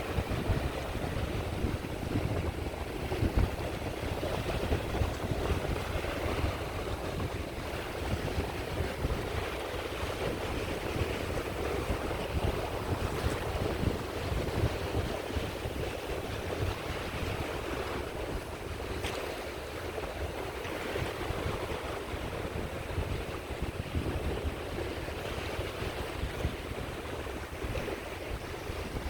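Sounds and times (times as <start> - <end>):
sea waves washing onto shore: 0.0 - 29.0
wind buffeting the microphone: 0.0 - 29.0.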